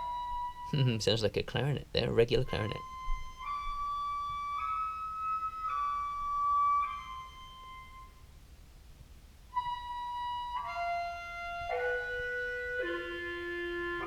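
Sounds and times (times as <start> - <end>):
effected clarinet notes: 0.0 - 8.4, 9.5 - 14.0.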